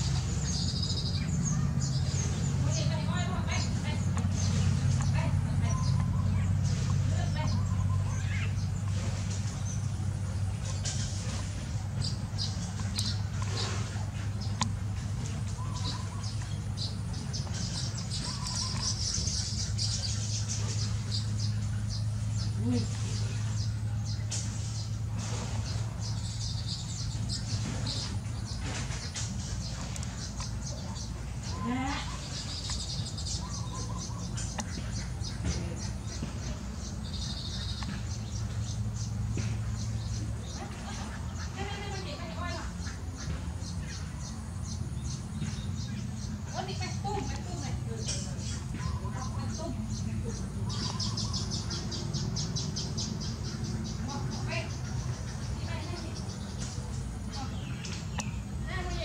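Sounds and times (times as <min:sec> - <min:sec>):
birds chirping: 0:00.0 - 0:59.0
steady low hum: 0:00.0 - 0:59.0.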